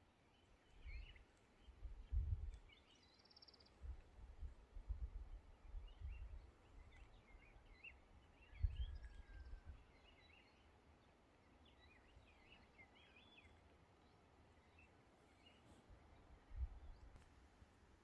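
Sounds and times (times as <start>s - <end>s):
small birds chirping: 0.3s - 17.4s.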